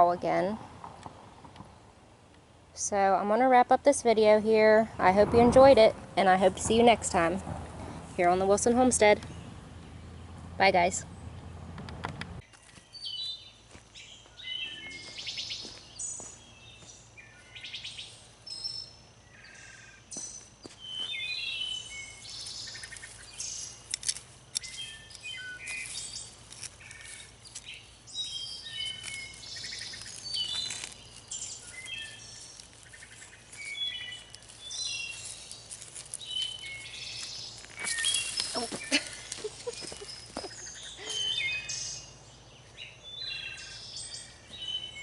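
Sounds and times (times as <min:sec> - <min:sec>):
songbirds singing and chirping: 0:00.0 - 0:45.0.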